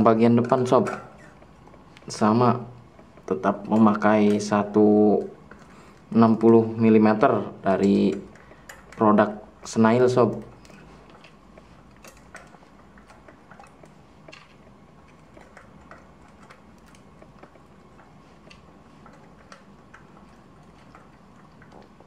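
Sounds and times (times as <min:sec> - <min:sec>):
faint steady hum: 0:00.0 - 0:22.0
small metal clicks: 0:03.0 - 0:22.0.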